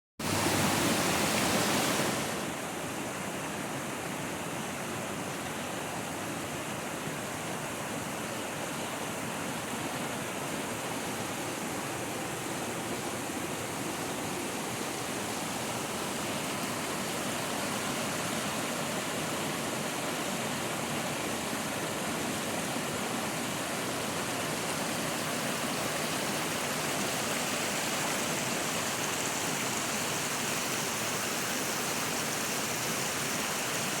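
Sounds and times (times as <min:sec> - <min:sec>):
water rushing: 0:00.2 - 0:34.0.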